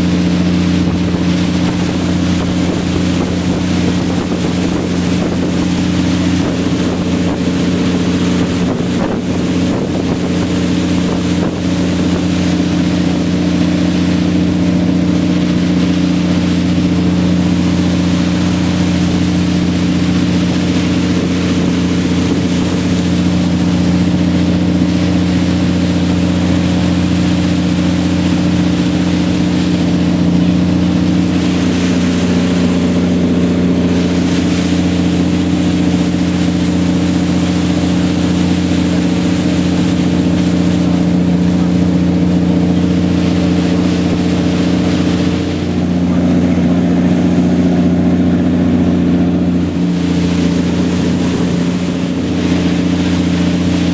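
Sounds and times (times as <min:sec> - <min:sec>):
speedboat engine running: 0:00.0 - 0:53.9
water rushing past hull: 0:00.0 - 0:53.9
wind on microphone: 0:00.0 - 0:53.9.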